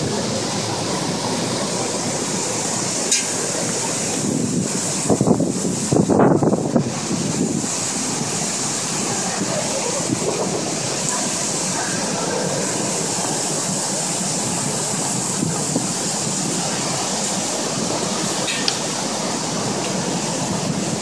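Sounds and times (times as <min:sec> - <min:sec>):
heavy rain pouring: 0:00.0 - 0:21.0
wind buffeting microphone: 0:00.0 - 0:21.0.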